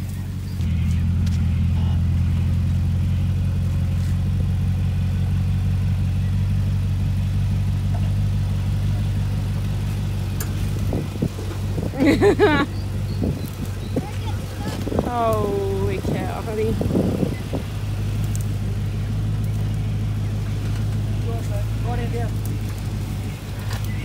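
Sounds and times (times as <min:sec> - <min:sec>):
car engine at raised revs: 0:00.0 - 0:24.0.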